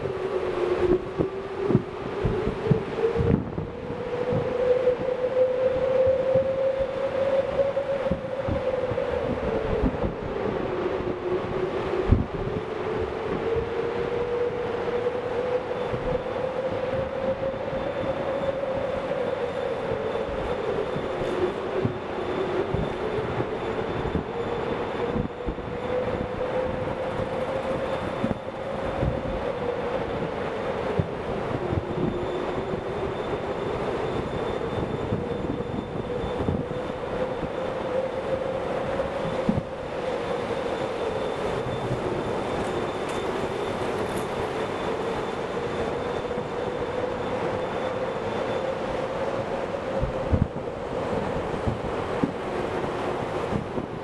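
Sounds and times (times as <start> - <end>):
droning hum wavering in pitch: 0.0 - 54.0.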